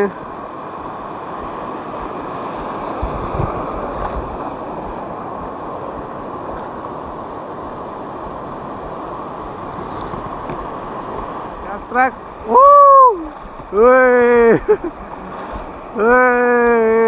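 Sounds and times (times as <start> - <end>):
wind buffeting microphone: 0.0 - 16.8
surf breaking: 0.0 - 17.0.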